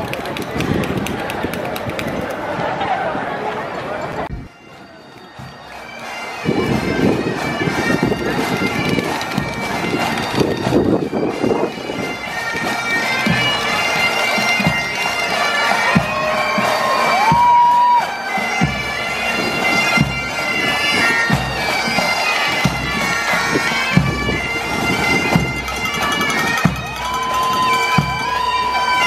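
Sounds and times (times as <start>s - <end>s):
faint crowd: 0.0s - 29.0s
bagpipes playing: 4.3s - 29.0s.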